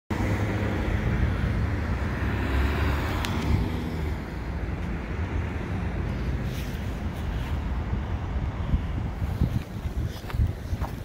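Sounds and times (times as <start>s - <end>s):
road traffic rumble: 0.1s - 11.0s.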